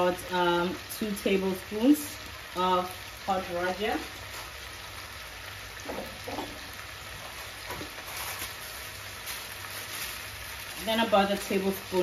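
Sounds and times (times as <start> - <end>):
meat and peppers sizzling in a pot: 0.0 - 12.0.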